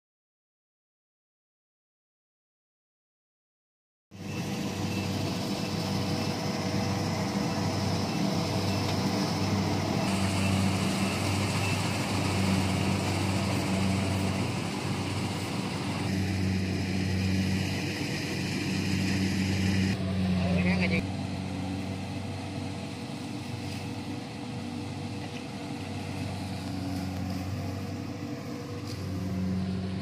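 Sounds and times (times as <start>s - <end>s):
combine harvester engine droning: 4.2s - 30.0s.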